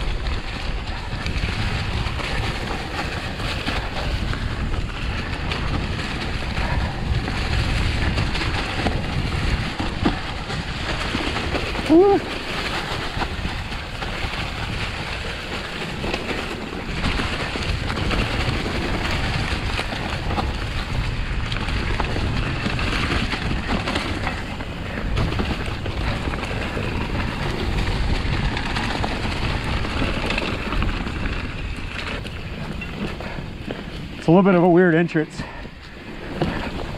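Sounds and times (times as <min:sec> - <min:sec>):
wind on microphone: 0:00.0 - 0:34.2
bike clicks and rattles: 0:00.0 - 0:36.9
tyres rolling over leaves and dirt: 0:00.0 - 0:36.9.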